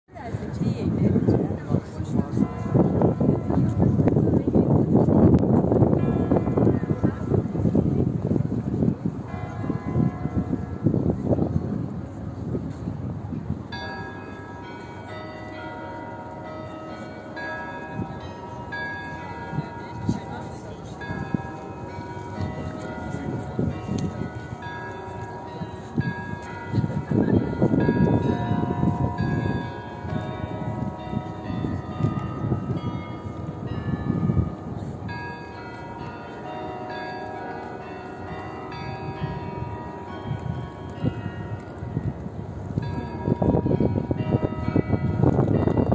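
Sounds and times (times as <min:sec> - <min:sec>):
low murmur of crowd: 0:00.1 - 0:45.9
tower bell chimes: 0:01.8 - 0:04.6, 0:05.7 - 0:45.9.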